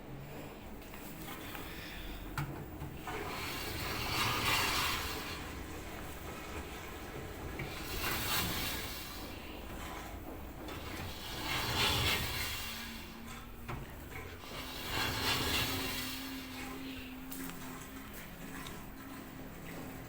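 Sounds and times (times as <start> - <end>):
dryer drum rubbing and scraping: 0.3 - 20.0.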